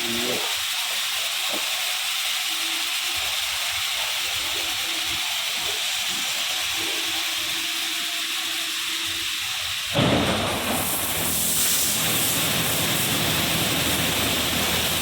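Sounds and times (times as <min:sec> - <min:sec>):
high-pressure water jets hissing: 0:00.0 - 0:15.0.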